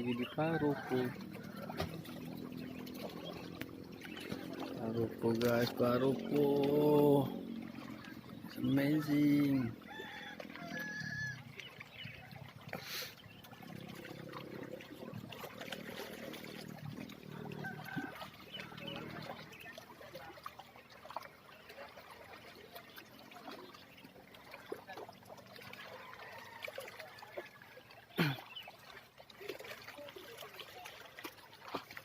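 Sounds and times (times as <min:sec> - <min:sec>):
water lapping and trickling: 0:00.0 - 0:32.0.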